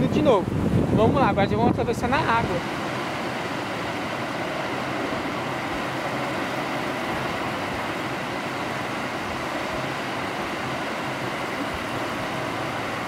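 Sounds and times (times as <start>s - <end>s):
surf washing up a sandy beach: 0.0s - 13.0s.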